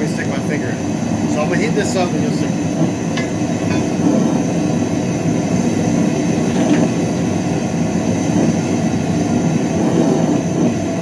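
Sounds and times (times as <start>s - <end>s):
propane burner roaring: 0.0s - 11.0s.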